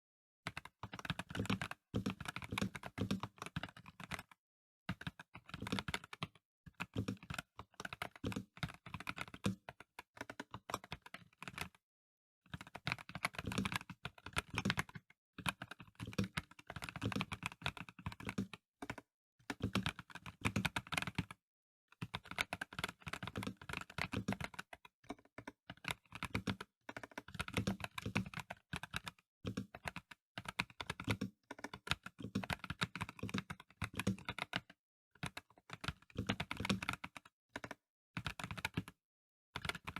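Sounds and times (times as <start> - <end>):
mechanical keyboard typing: 0.5 - 11.8, 12.5 - 21.4, 22.0 - 39.0, 39.6 - 39.9.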